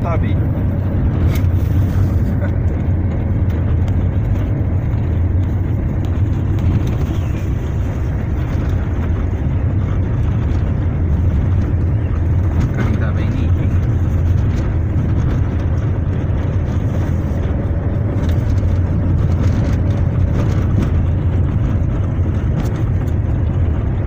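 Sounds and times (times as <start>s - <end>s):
car engine and tyres rumbling: 0.0s - 24.0s
knocks and rattles: 2.3s - 24.0s.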